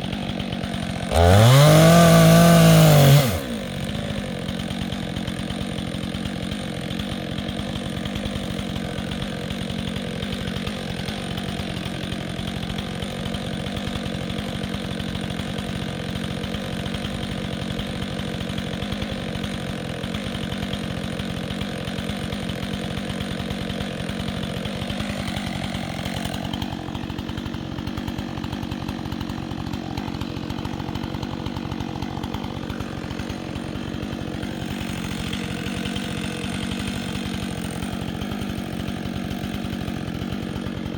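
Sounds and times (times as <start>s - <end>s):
chainsaw engine running: 0.0s - 40.9s.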